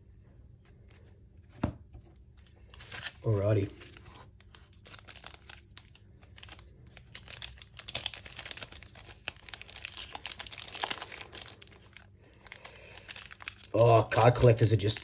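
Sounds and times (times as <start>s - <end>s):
plastic wrapper crinkling and tearing: 2.4s - 15.0s.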